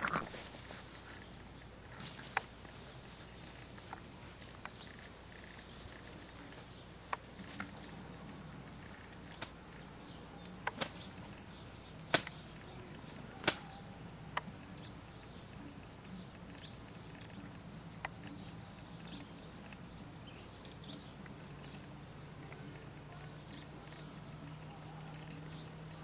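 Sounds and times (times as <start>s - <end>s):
faint steady background noise: 0.0s - 26.0s.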